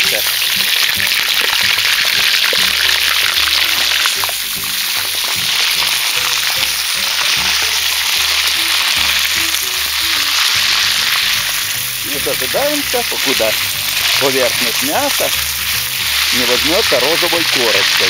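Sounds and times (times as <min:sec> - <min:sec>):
bones sizzling in hot oil: 0:00.0 - 0:18.0.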